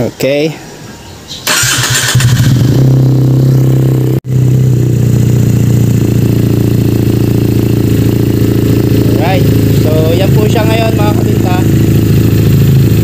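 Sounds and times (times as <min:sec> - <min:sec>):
motorcycle engine idling: 0:01.5 - 0:13.0.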